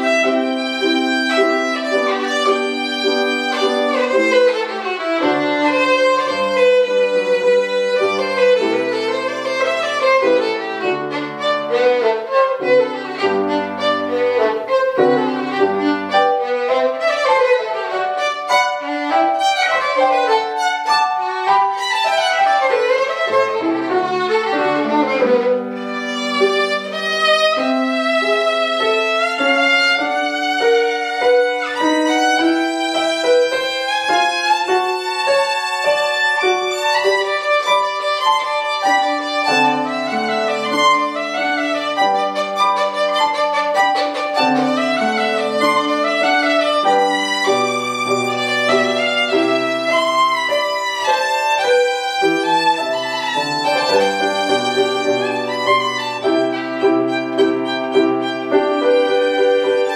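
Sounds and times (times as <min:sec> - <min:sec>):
piano chords: 0:00.0 - 0:59.9
violin melody with vibrato: 0:00.0 - 0:59.9.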